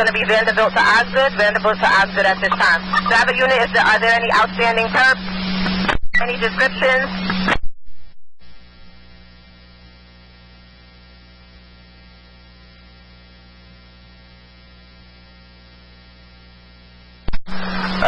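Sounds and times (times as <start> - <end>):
electrical hum and buzz: 0.0 - 18.0.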